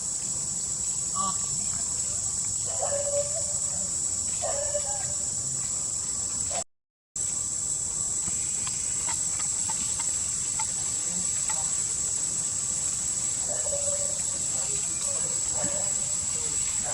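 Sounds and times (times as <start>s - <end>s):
crickets chirping: 0.0s - 6.6s, 7.2s - 16.9s
short insect calls: 0.0s - 6.6s, 7.2s - 16.9s.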